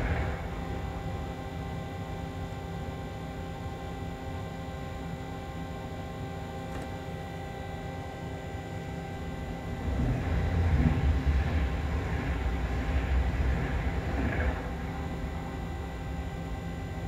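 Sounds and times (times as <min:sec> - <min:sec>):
locomotive cab hum: 0:00.0 - 0:17.0.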